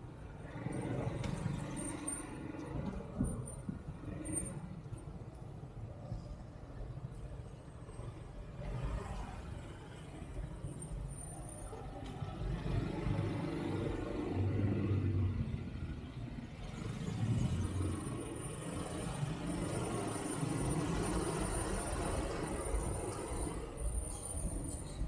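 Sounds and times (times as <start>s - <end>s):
car engines: 0.0s - 25.0s
road rumble: 0.0s - 25.0s.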